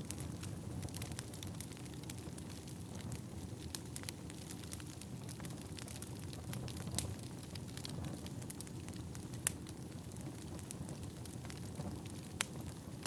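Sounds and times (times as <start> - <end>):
firewood burning with crackles: 0.0 - 13.0.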